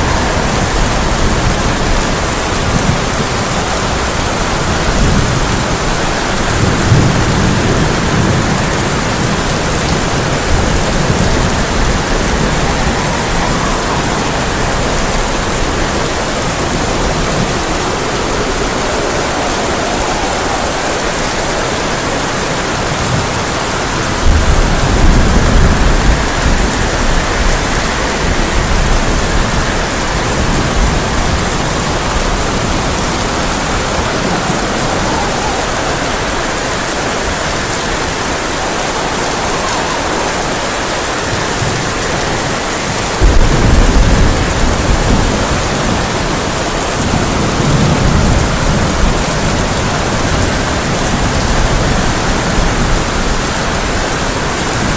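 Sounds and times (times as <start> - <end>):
heavy rain on a tin roof: 0.0 - 54.9
thunder rumbling: 0.0 - 54.9.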